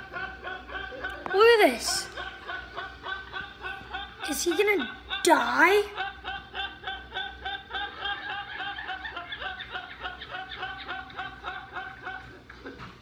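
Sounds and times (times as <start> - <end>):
man laughing: 0.0 - 13.0.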